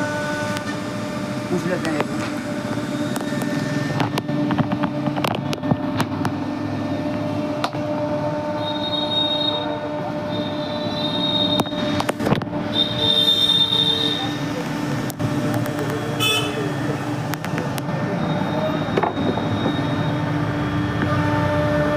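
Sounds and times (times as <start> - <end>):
router spindle humming: 0.0 - 21.9.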